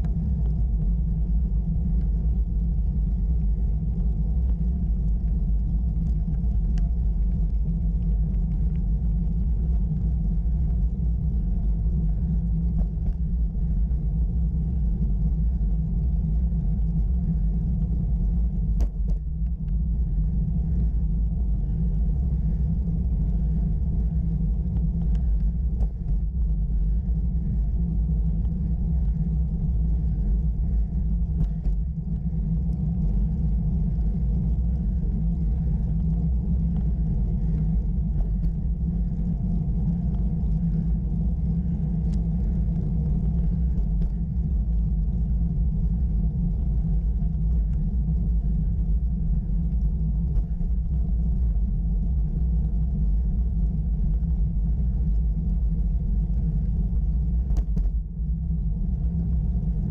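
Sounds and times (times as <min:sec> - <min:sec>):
road vibration: 0:00.0 - 0:59.8
faint ticks: 0:00.0 - 0:59.9
wind rumble: 0:00.0 - 0:59.9.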